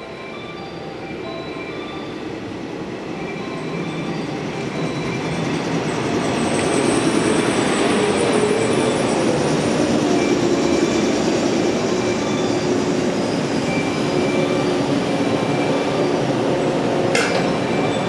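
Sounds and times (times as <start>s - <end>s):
electric train set rumbling: 0.0s - 18.0s
high wavering wheel squeal: 3.4s - 18.0s.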